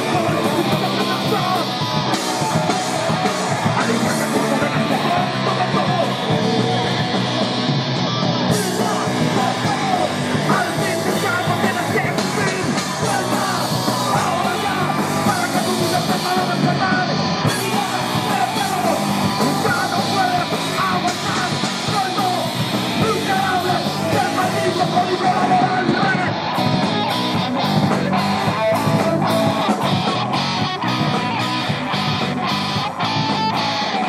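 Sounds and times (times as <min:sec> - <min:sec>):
punk band playing live: 0:00.0 - 0:34.0
shouted lead vocal: 0:00.0 - 0:34.0.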